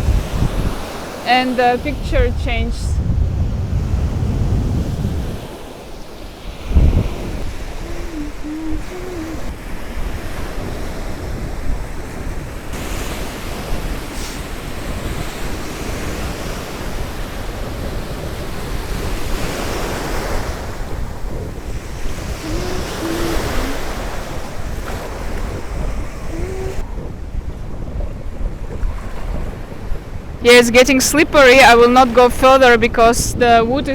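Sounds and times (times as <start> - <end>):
sea waves breaking on beach: 0.0 - 33.9
wind buffeting microphone: 0.0 - 33.9.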